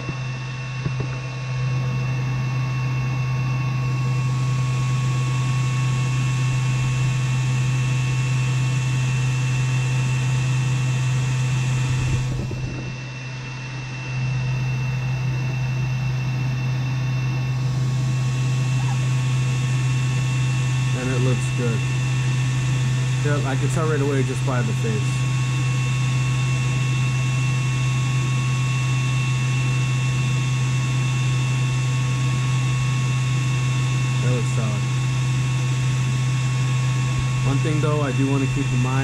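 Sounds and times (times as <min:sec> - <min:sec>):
laser engraver fan hum: 0:00.0 - 0:39.0
thin high whine: 0:00.0 - 0:39.0.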